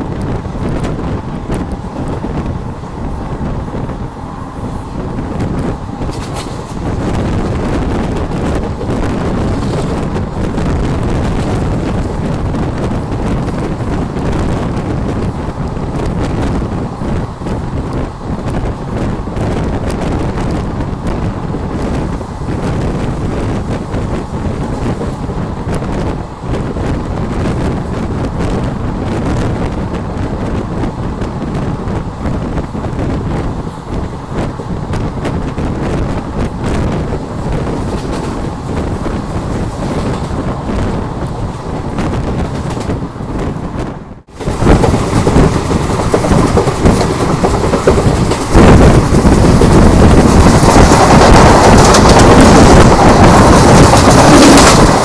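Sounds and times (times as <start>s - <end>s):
train rumble: 0.0s - 55.0s
wind buffeting microphone: 0.0s - 55.0s.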